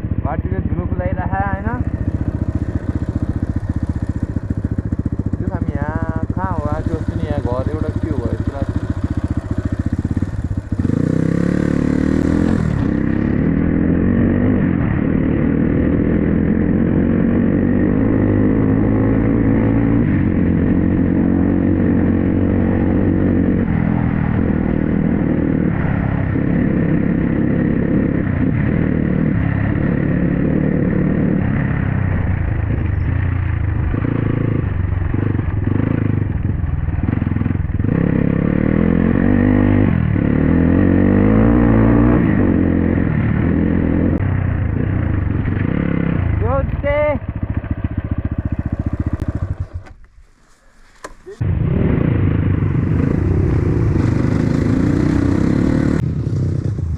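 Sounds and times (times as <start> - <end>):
dirt bike engine running: 0.0 - 56.9.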